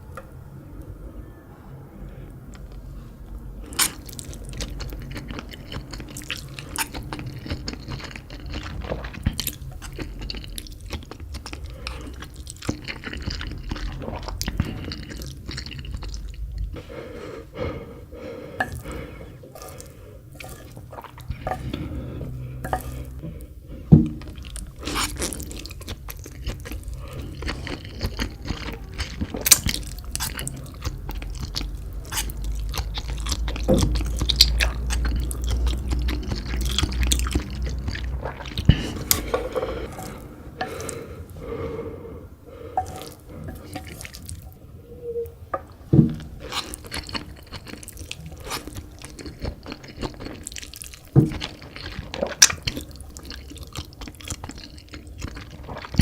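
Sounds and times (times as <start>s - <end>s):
chewing noodles: 3.6s - 41.8s, 42.5s - 44.6s, 45.7s - 56.0s.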